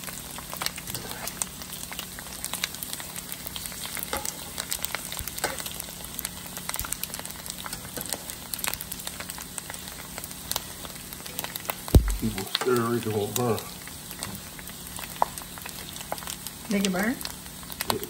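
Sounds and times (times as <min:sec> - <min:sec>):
pork skin frying in oil: 0:00.0 - 0:18.0.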